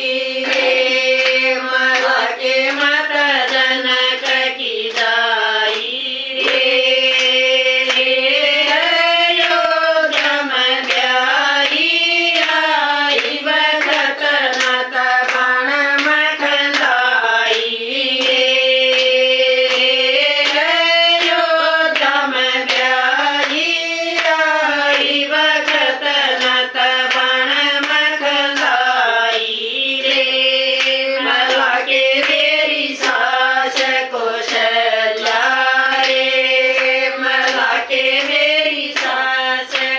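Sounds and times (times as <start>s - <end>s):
hands clapping in rhythm: 0.0s - 39.9s
women singing in unison: 0.0s - 39.9s.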